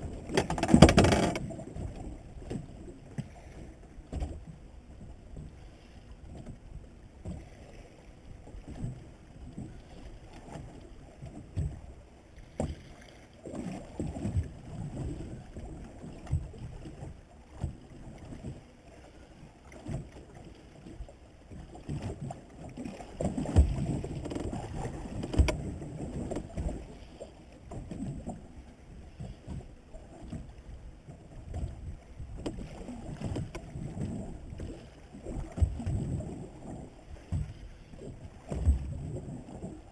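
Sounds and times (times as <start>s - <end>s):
water slapping against a hull: 0.0s - 39.9s.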